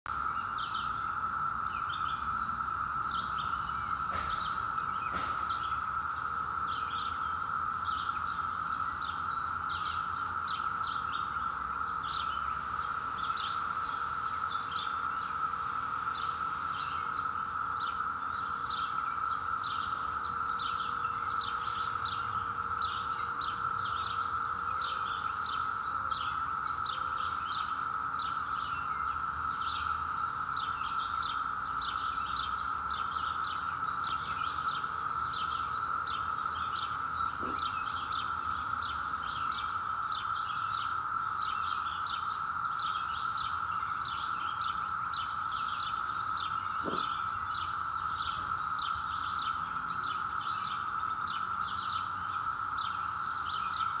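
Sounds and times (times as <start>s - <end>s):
birds chirping: 0.1s - 54.0s
cicadas droning: 0.1s - 54.0s.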